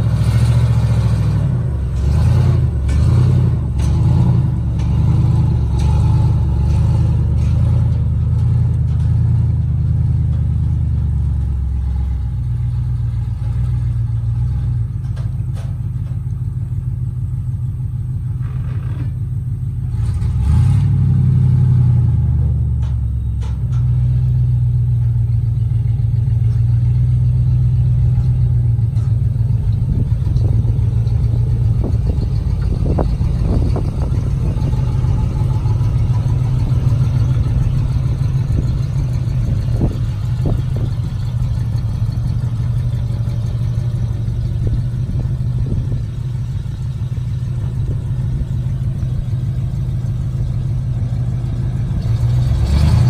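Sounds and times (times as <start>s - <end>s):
truck engine low drone: 0.0s - 53.0s.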